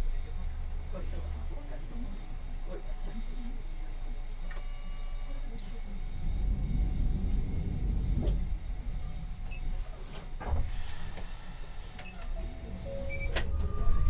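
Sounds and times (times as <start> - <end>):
tram cab rumble: 0.0 - 2.7, 5.4 - 14.0.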